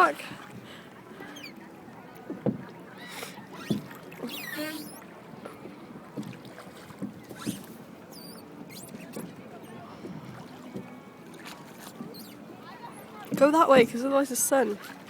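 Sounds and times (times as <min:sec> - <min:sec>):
oars clunking in oarlocks: 0:00.0 - 0:15.0
soft water noise: 0:00.0 - 0:15.0.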